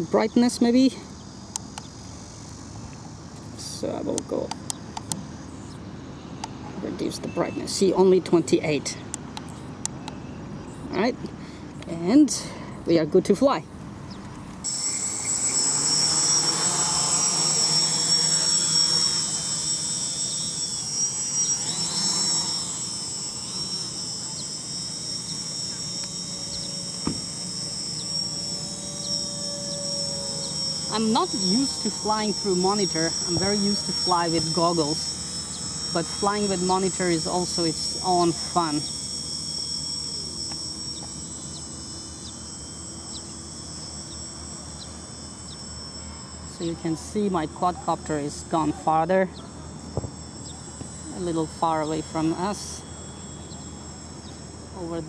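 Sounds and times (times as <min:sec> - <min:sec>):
crickets chirping: 0:00.0 - 0:13.0, 0:13.6 - 0:55.0
faint drone motor hum: 0:00.0 - 0:55.0
quadcopter propellers whining: 0:00.0 - 0:55.0.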